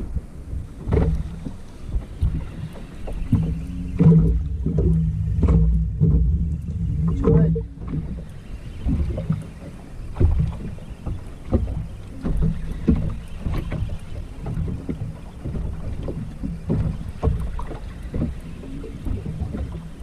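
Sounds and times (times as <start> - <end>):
water slapping boat hull: 0.0 - 20.0
wind buffeting microphone: 0.0 - 20.0.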